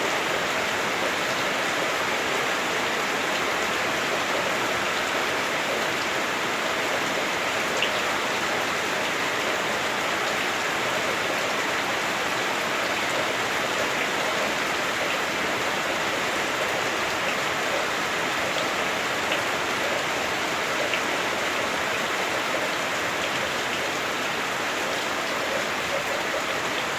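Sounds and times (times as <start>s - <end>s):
heavy rain on a roof: 0.0s - 26.9s.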